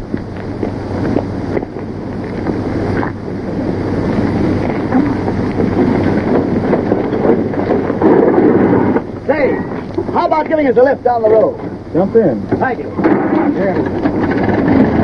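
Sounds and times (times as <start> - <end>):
old car engine running: 0.0 - 15.0
old film soundtrack hiss and crackle: 0.0 - 15.0.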